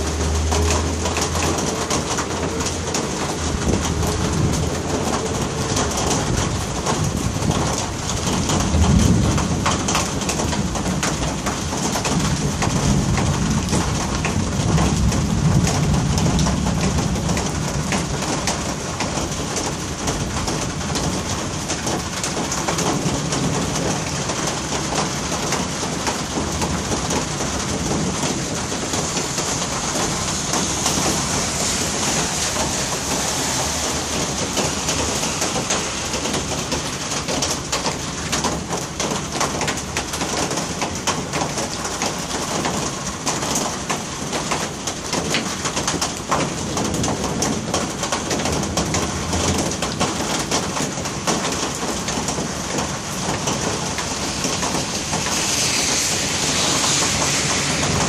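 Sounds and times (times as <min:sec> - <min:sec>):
thunder rolling: 0:00.0 - 0:39.2, 0:46.4 - 0:58.0
rain falling on street: 0:00.0 - 0:58.0.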